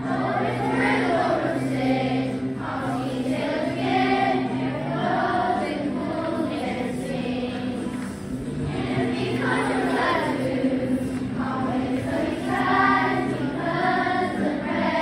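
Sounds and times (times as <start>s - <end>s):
children singing: 0.0s - 15.0s
musical backing: 0.0s - 15.0s.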